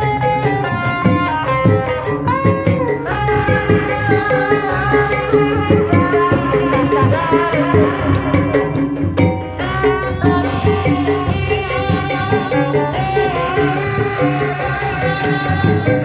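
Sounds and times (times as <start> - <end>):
folk music with drums: 0.0 - 16.0
high percussion ticks: 0.0 - 16.0
person singing: 0.0 - 16.0.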